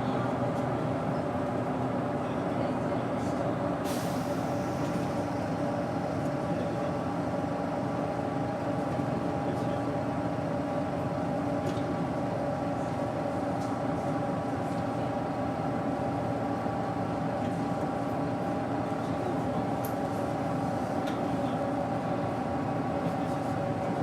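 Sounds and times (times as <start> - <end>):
bus engine droning with whine: 0.0 - 24.0.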